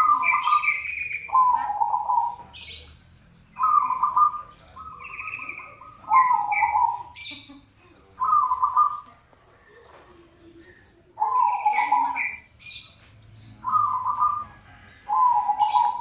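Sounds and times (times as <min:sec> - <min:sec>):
dove trilled cooing: 0:00.0 - 0:03.0, 0:03.6 - 0:07.6, 0:08.2 - 0:12.8, 0:13.5 - 0:16.0
high bird chirps: 0:00.0 - 0:09.1, 0:11.2 - 0:16.0.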